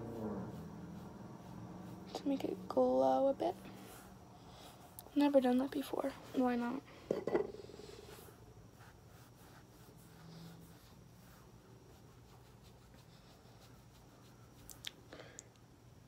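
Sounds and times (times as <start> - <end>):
makeup brush strokes: 0.0 - 6.8, 7.5 - 14.9.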